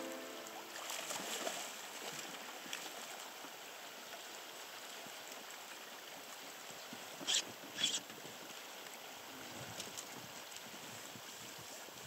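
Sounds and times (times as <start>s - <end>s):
river water running: 0.0s - 12.0s.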